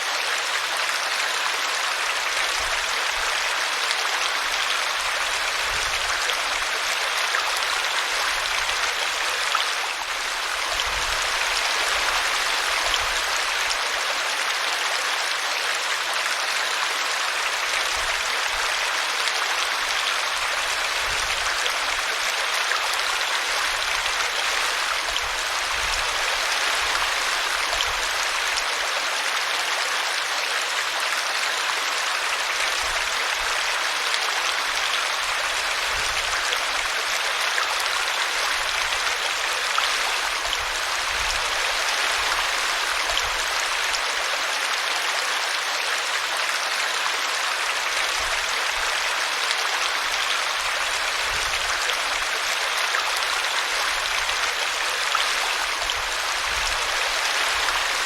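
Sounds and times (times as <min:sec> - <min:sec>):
brook water rushing and splashing: 0:00.0 - 0:58.0.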